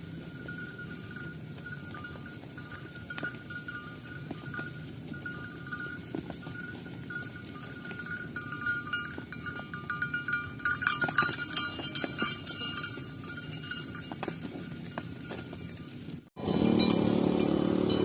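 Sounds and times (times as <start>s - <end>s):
cattle bells clanking: 0.0s - 18.0s.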